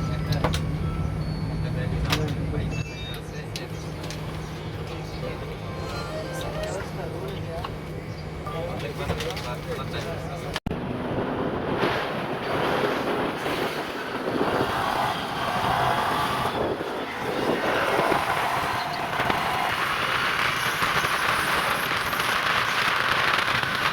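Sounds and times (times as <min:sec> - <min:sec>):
aircraft cabin engine rush: 0:00.0 - 0:23.9.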